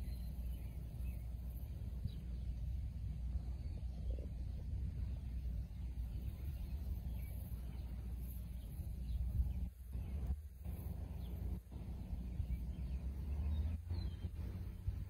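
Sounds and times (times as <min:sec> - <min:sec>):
faint bird chirps: 0:00.0 - 0:15.0
wind buffeting microphone: 0:00.0 - 0:15.0.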